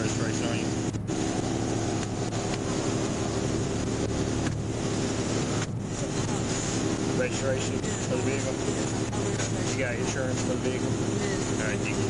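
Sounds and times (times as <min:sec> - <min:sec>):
car engine idling: 0:00.0 - 0:12.0
constant rushing noise: 0:00.0 - 0:12.0.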